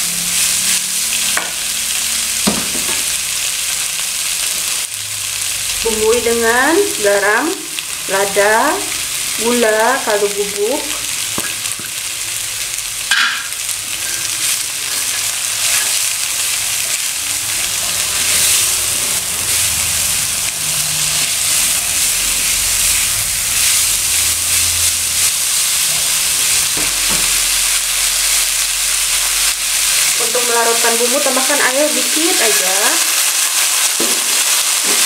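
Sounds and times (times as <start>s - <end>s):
vegetables sizzling in a pan: 0.0s - 35.0s.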